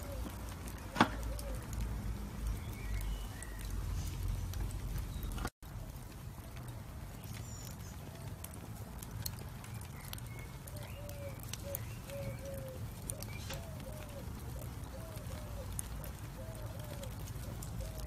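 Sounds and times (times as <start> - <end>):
birds chirping: 0.0 - 5.5, 7.0 - 8.6, 9.2 - 18.0
fire crackling and popping: 0.0 - 18.0.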